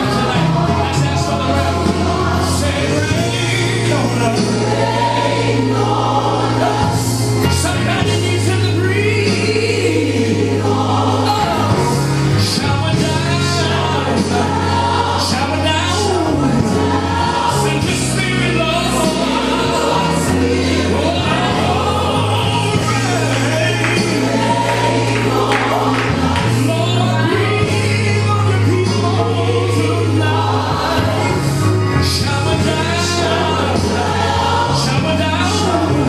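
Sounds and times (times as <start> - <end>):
choir singing gospel: 0.0 - 36.0
low bass notes: 0.0 - 36.0.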